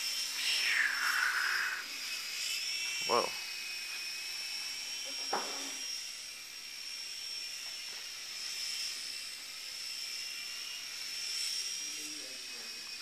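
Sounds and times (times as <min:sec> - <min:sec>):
toy helicopter motor whine: 0:00.0 - 0:13.0.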